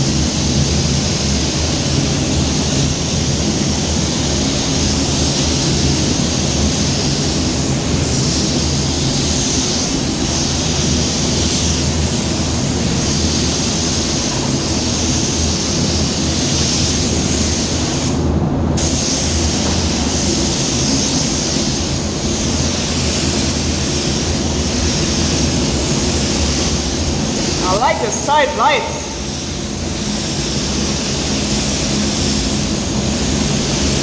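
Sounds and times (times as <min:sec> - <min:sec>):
air fans humming: 0:00.0 - 0:34.0
spray gun hissing: 0:00.0 - 0:34.0.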